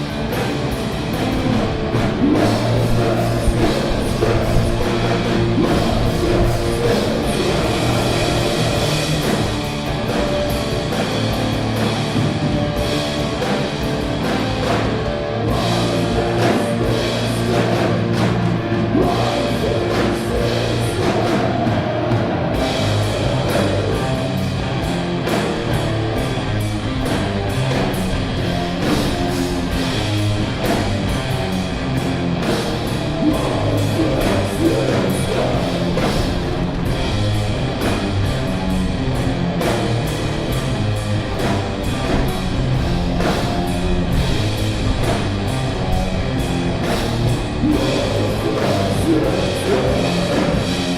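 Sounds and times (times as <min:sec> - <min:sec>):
metal band playing: 0:00.0 - 0:50.9.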